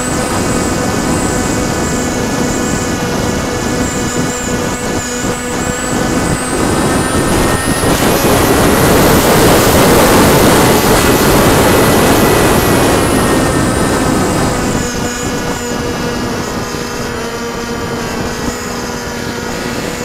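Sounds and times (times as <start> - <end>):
model plane motor whine: 0.0 - 20.0
rushing air noise: 0.0 - 20.0.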